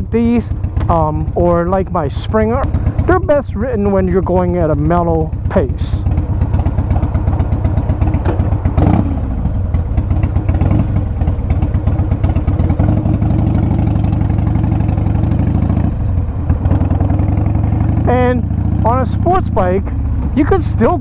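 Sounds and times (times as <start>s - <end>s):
motorcycle engine cruising: 0.0s - 21.0s.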